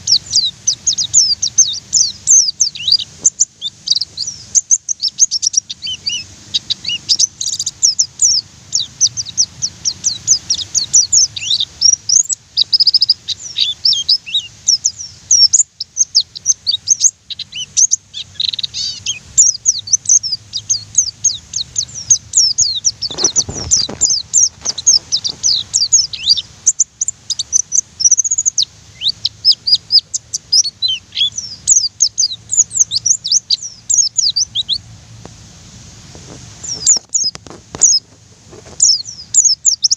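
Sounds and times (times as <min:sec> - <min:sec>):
bird chirping chatter: 0:00.0 - 0:35.3, 0:36.1 - 0:39.9.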